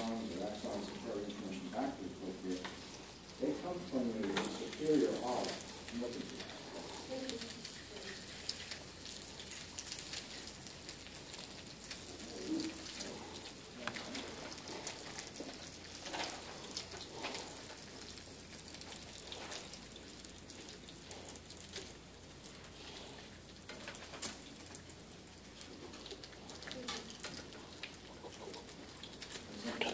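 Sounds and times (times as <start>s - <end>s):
meat sizzling on grill: 0.0s - 29.9s.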